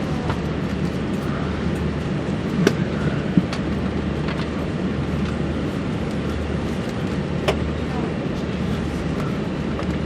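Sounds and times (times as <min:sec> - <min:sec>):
aircraft cabin hum: 0:00.0 - 0:10.0.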